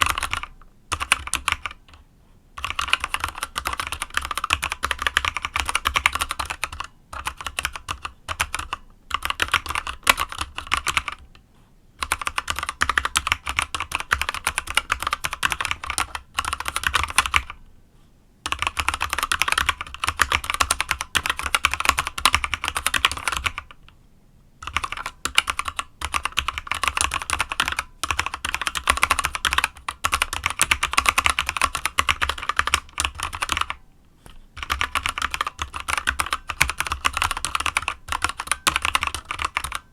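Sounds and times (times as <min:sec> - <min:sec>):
mechanical keyboard typing: 0:00.0 - 0:02.0, 0:02.6 - 0:11.4, 0:12.0 - 0:17.6, 0:18.4 - 0:23.8, 0:24.6 - 0:33.8, 0:34.6 - 0:39.9.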